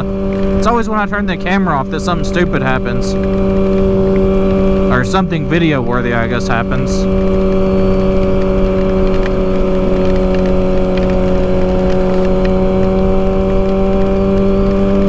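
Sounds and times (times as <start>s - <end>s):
motorcycle engine cruising: 0.0s - 15.0s
road rumble: 0.0s - 15.0s
wind: 0.0s - 15.0s.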